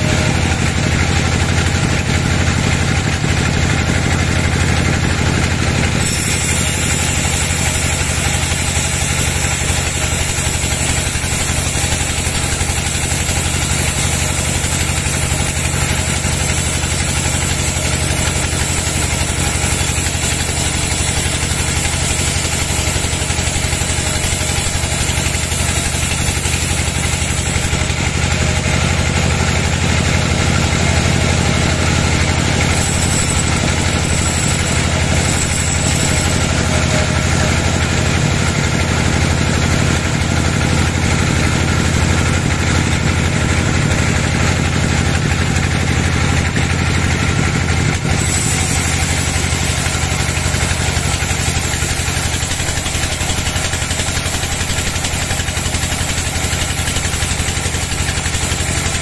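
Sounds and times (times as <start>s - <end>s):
band saw machine hum: 0.0s - 59.0s
saw blade hissing through wood: 3.8s - 42.4s, 48.0s - 59.0s.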